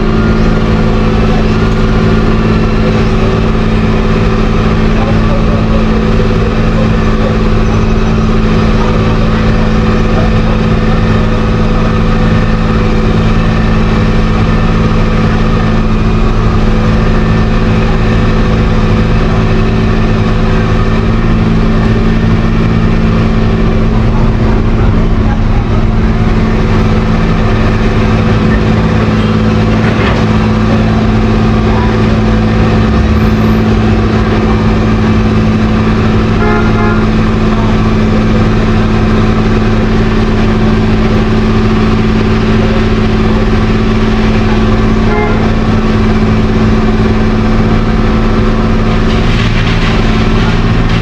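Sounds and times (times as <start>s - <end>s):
machinery engine humming: 0.0s - 51.0s.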